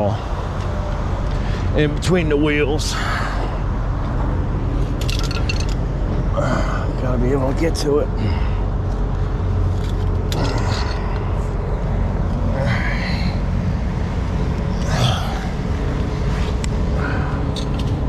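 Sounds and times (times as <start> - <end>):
engine idling rumble: 0.0 - 18.0.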